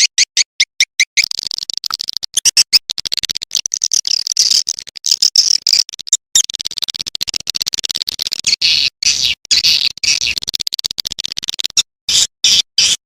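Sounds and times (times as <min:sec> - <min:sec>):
high-pitched bird chittering: 0:00.0 - 0:10.6, 0:11.3 - 0:13.0.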